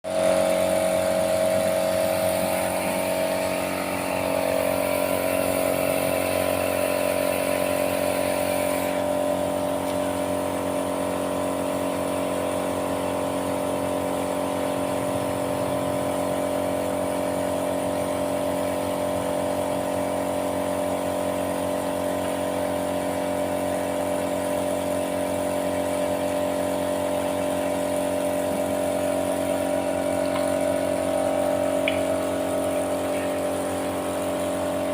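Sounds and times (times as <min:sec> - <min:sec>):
machine motor running: 0:00.1 - 0:34.9.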